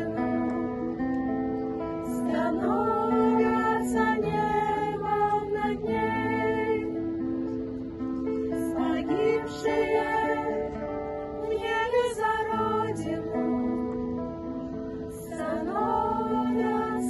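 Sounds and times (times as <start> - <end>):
vocal ensemble singing a ballad: 0.0 - 0.8, 2.0 - 17.0.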